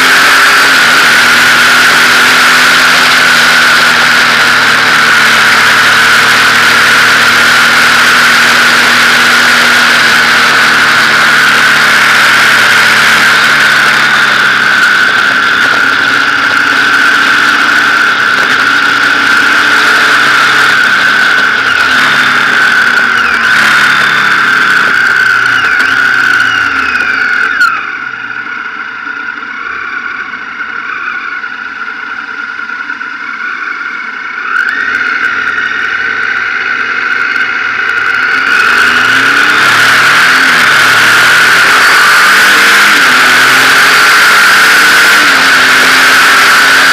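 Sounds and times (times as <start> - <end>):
motorcycle engine whine: 0.0 - 46.9.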